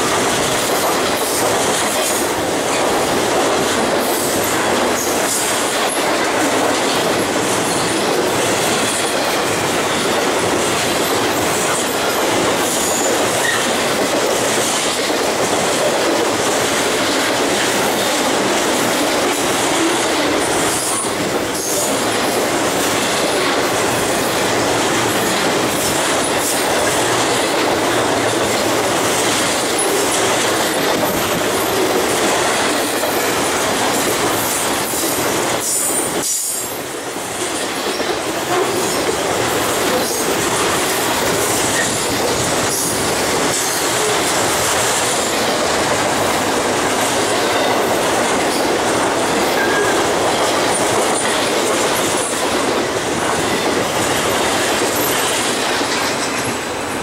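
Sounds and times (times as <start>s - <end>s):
train wheels rushing on rails: 0.0s - 57.0s.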